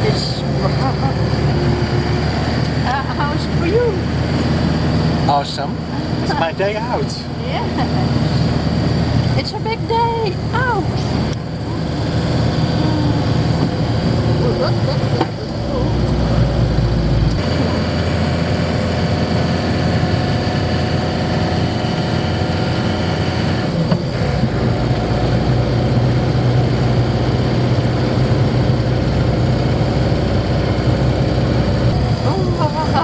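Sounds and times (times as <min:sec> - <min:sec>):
van engine droning: 0:00.0 - 0:33.0.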